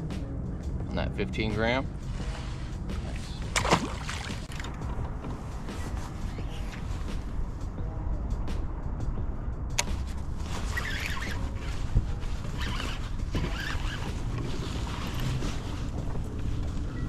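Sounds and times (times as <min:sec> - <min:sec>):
low wind rumble on microphone: 0:00.0 - 0:17.0.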